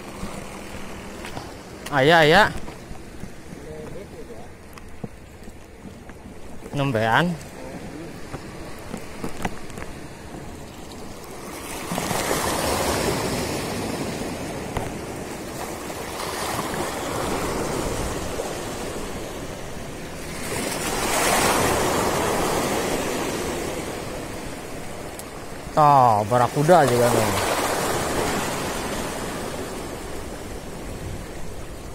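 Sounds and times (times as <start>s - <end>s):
waves breaking on rocks: 0.0s - 31.9s.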